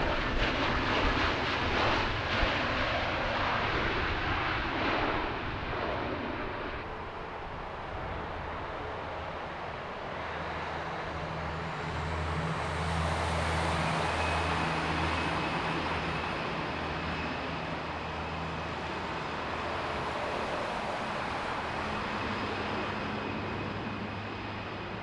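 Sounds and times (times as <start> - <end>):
jet engines rushing and whining: 0.0 - 25.0.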